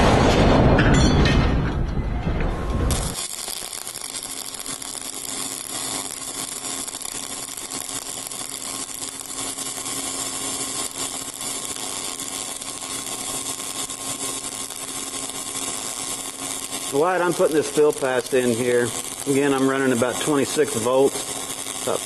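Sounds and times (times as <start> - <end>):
welding arc crackling hiss: 2.9 - 22.0.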